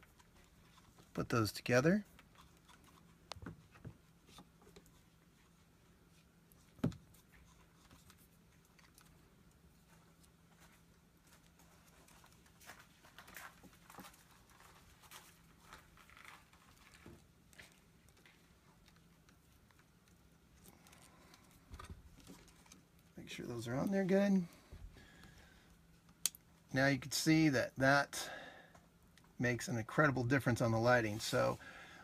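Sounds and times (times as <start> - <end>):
soft rustling: 0.0 - 26.1
faint steady hum: 0.0 - 32.0.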